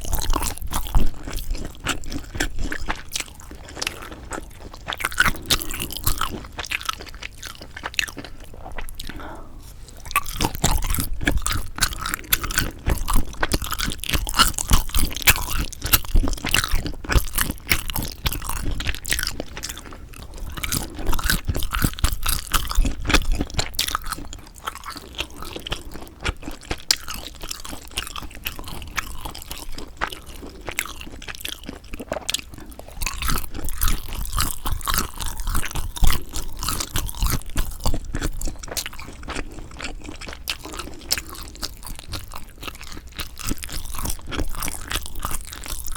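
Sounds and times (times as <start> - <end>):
close chewing with wet crunches: 0.0 - 45.9.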